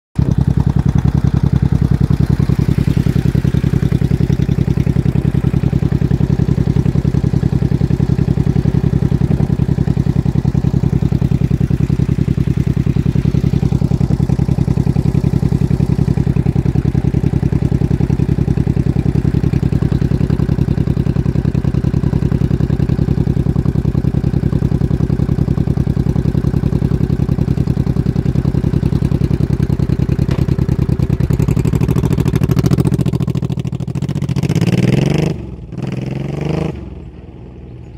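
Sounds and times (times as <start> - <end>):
motorcycle engine idling: 0.2 - 37.9.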